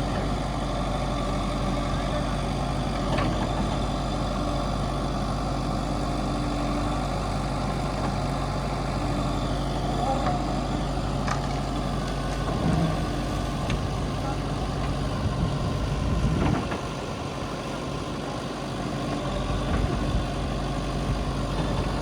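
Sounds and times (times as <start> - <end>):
diesel engine running at low revs: 0.0 - 22.0.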